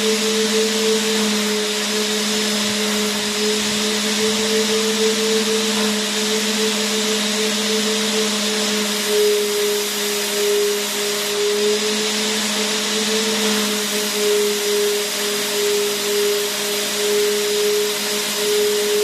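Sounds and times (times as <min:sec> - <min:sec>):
vacuum cleaner motor running: 0:00.0 - 0:19.0.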